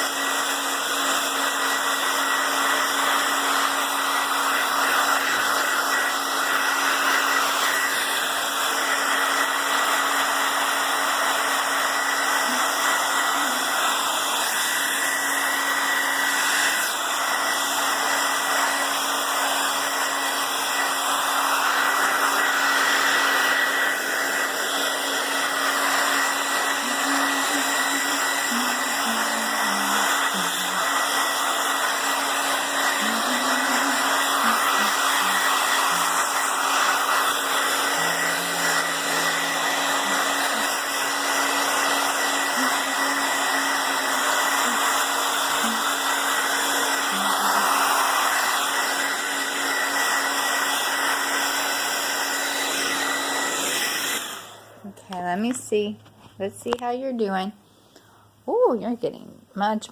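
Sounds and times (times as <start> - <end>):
blow dryer running: 0.0 - 55.6.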